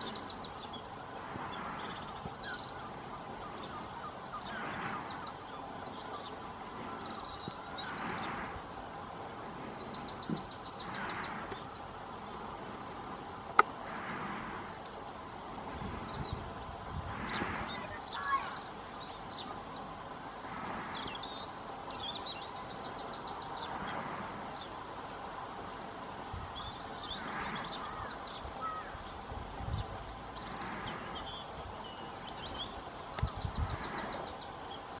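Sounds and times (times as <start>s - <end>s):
outdoor background noise: 0.0s - 35.0s
small birds calling and singing: 0.0s - 35.0s.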